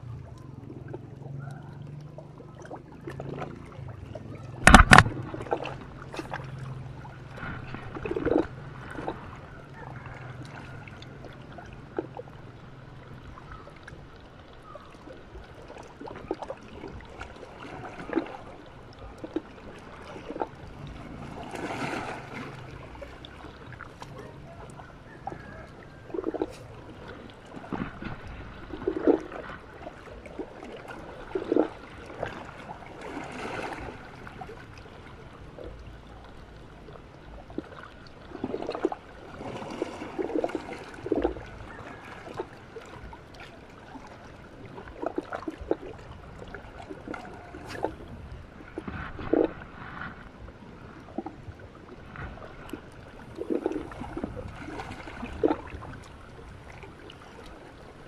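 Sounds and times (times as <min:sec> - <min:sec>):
waves lapping against rocks: 0:00.0 - 0:58.0.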